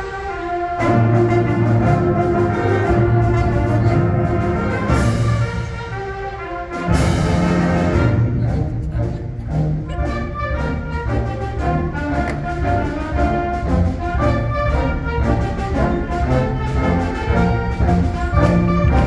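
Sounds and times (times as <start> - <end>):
wind band playing: 0.0 - 19.0.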